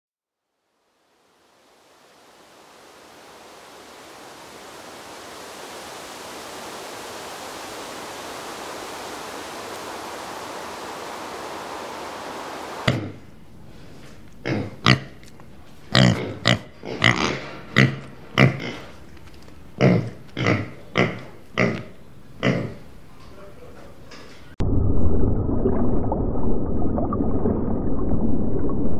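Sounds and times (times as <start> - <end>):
steady hissing noise: 0.3 - 24.2.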